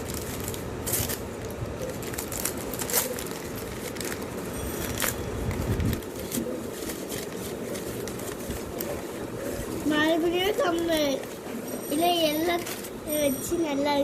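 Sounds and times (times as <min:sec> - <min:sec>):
gift wrapping crinkling: 0:00.0 - 0:14.0.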